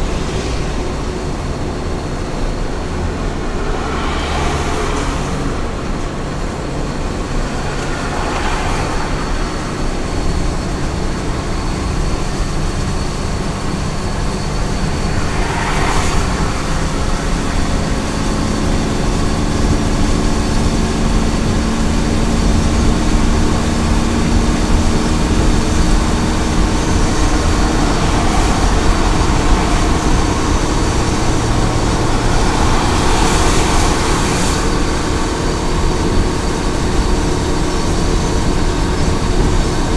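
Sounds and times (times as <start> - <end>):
rushing noise: 0.0 - 39.9
truck engine drone: 0.0 - 39.9
tyre and road noise: 0.0 - 39.9.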